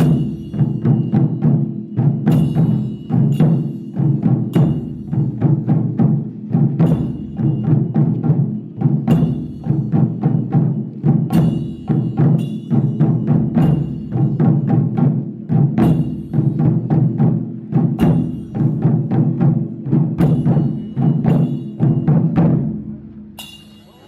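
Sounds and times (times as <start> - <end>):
taiko drums playing fast rhythm: 0.0 - 24.0.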